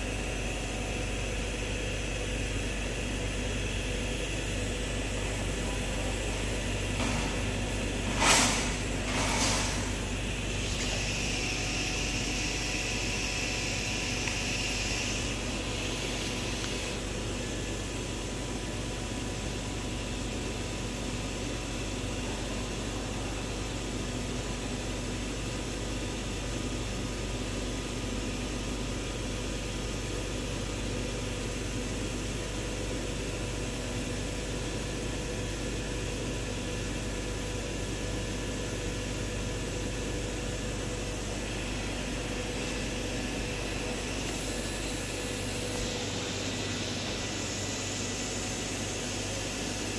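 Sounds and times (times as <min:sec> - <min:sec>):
laser cutting machine hiss and hum: 0:00.0 - 0:49.9.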